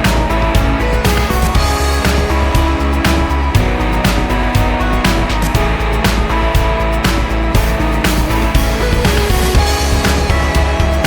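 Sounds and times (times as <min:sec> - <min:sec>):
music with driving beat and guitar: 0:00.0 - 0:11.0.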